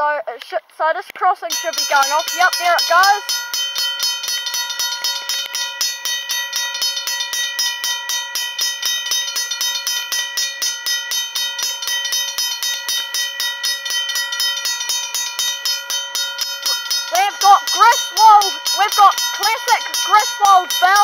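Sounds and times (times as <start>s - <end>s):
crossing bell ringing: 1.5s - 21.0s.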